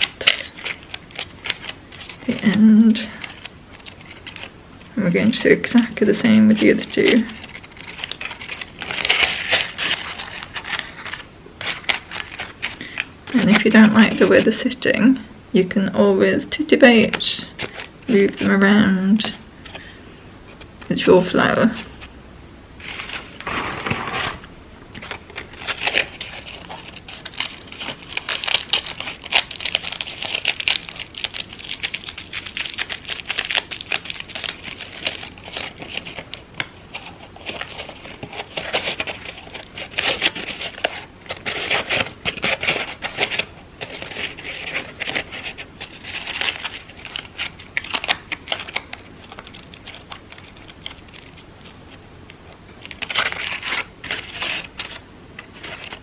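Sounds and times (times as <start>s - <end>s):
crepe paper crinkling: 0.0s - 4.6s, 5.3s - 14.6s, 22.8s - 56.0s.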